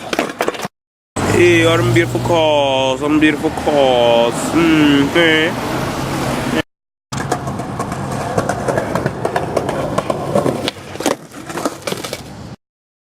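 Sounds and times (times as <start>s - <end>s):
hard wheels rolling on pavement: 0.0s - 12.6s.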